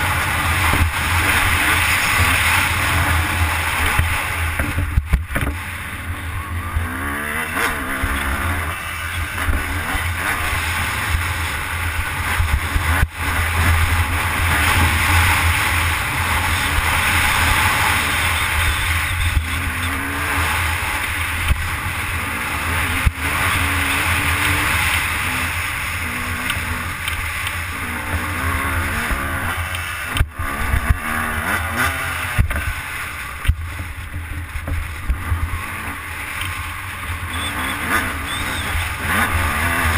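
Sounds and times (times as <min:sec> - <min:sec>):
dirt bike engine revving: 0:00.0 - 0:34.2, 0:34.9 - 0:39.9.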